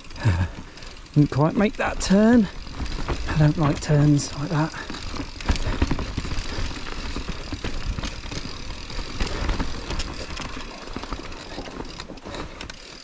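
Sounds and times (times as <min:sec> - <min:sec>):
bike knocking and rattling: 0:00.0 - 0:13.0
bike rumbling on dirt trail: 0:00.0 - 0:13.0.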